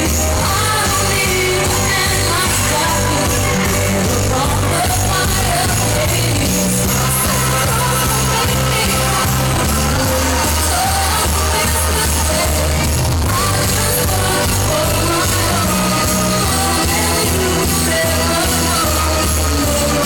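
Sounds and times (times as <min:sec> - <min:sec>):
dance music with sung vocal: 0:00.0 - 0:20.0.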